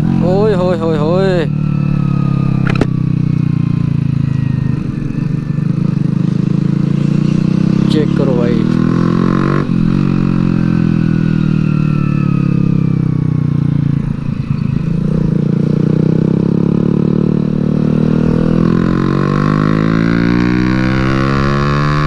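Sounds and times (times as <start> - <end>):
motorcycle engine running hard: 0.0 - 22.0.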